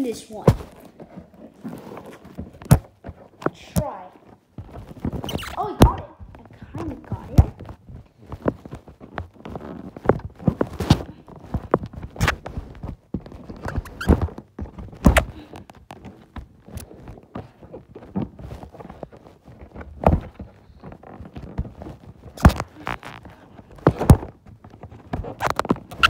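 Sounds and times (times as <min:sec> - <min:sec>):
scratching and crinkling of cardboard: 0:00.0 - 0:26.0
sharp knocks and thuds: 0:00.3 - 0:26.0.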